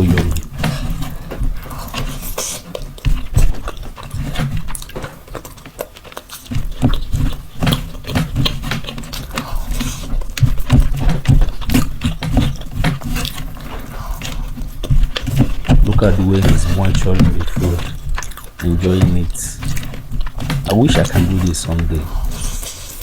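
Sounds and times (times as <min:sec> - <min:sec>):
lip smacks: 0:00.0 - 0:23.0
man chewing food: 0:00.0 - 0:23.0.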